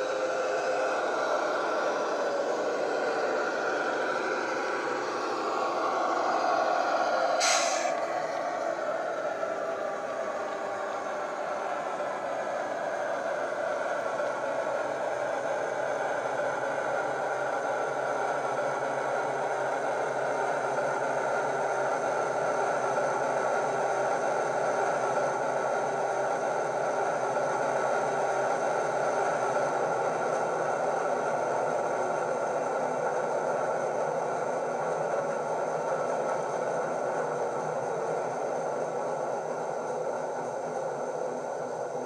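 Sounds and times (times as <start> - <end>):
model train diesel engine sound: 0.0 - 42.0.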